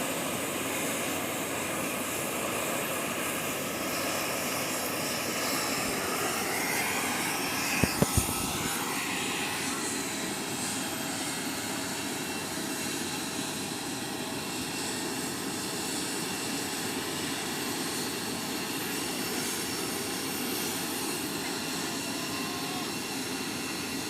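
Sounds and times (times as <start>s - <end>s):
airplane engine rushing: 0.0s - 24.0s.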